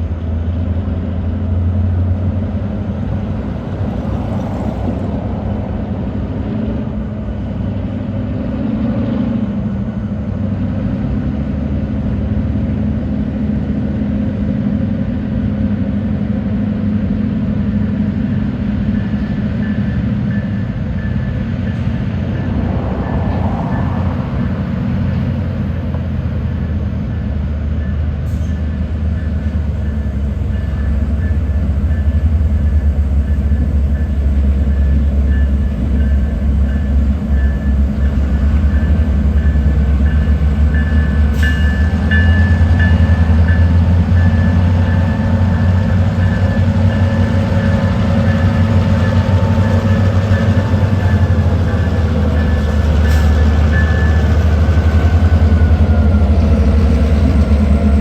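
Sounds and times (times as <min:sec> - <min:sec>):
diesel locomotive engine rumbling: 0:00.0 - 0:58.0.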